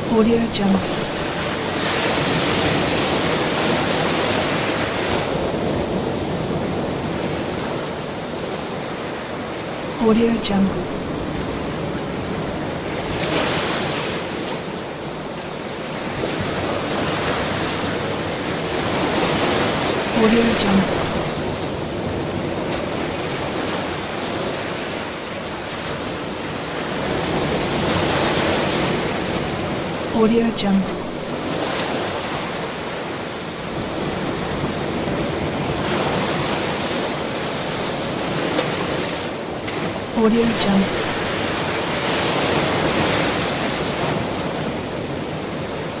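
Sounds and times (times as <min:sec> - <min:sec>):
ocean waves breaking: 0:00.0 - 0:46.0.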